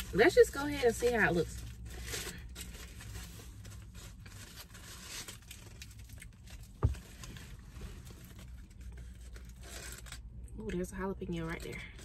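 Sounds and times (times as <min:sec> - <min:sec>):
sandwich wrapper crinkling: 0:00.0 - 0:10.4.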